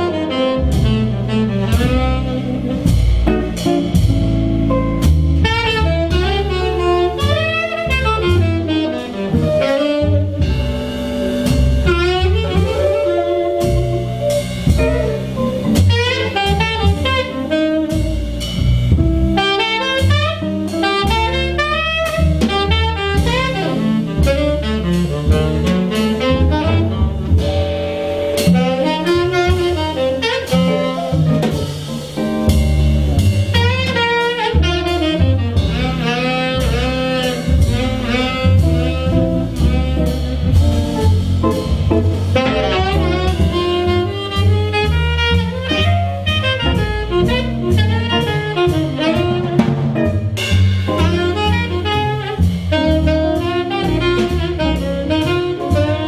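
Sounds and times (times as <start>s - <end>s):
bass: 0.0s - 56.0s
drums: 0.0s - 56.0s
jazz combo playing: 0.0s - 56.0s
lead instrument quick melodic runs: 0.3s - 56.0s.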